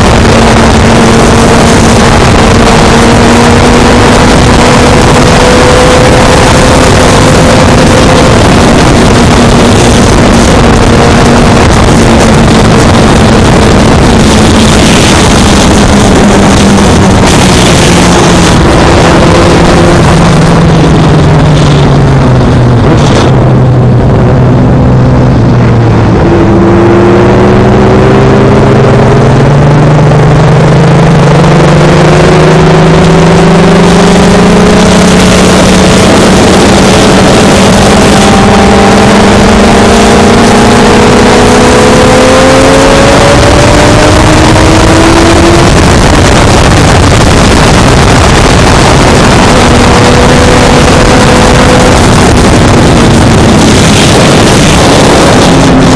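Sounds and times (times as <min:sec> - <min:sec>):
motorcycle engine accelerating: 0:00.0 - 0:55.9
other engines: 0:00.0 - 0:55.9
wind rush on microphone: 0:00.0 - 0:55.9.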